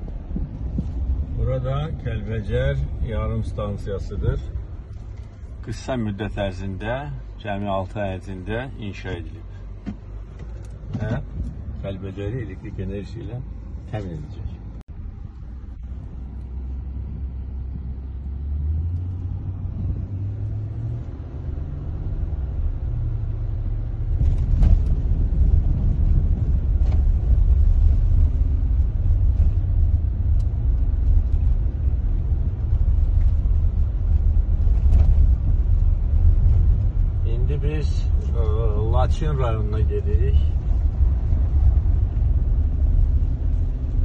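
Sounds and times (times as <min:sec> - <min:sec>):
car engine and tyre rumble: 0:00.0 - 0:44.0.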